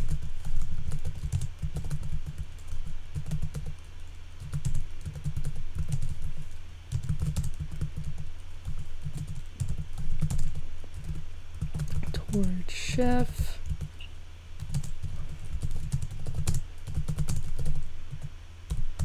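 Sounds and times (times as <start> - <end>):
typing on computer keyboard: 0.0 - 12.5, 13.6 - 14.0, 14.6 - 19.0.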